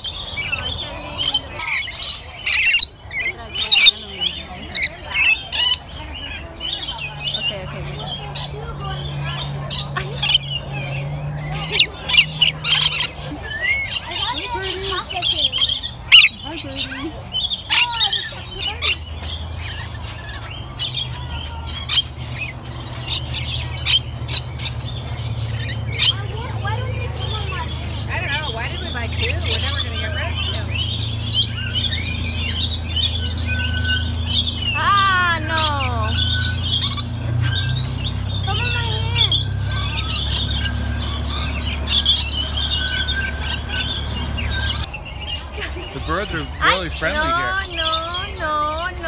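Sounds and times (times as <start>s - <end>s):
lorikeets screeching: 0.0s - 49.0s
parrots chattering and squawking: 0.0s - 49.0s.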